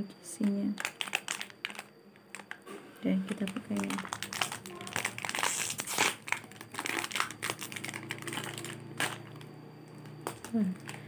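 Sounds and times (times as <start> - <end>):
foil sachet crinkling: 0.4 - 2.6, 3.2 - 11.0.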